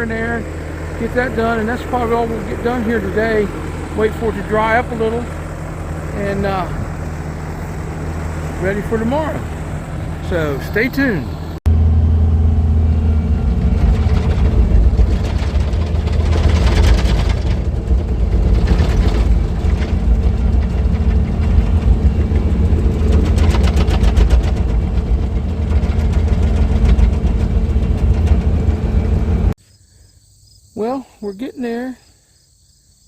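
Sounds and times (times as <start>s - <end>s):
heavy diesel engine running: 0.0s - 29.6s.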